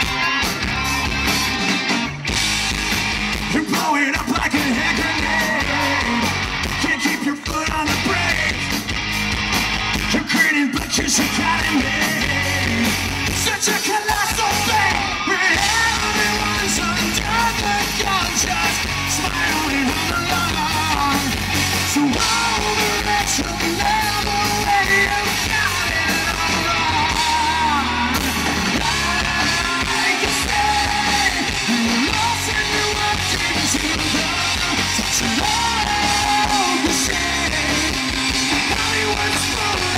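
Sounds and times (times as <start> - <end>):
live rock band: 0.0 - 39.9
man singing: 3.5 - 8.7, 10.1 - 39.9.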